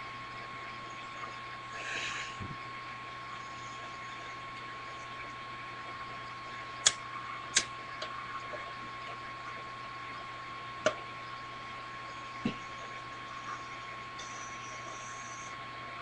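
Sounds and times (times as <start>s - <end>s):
steady hiss with high whine: 0.0s - 16.0s.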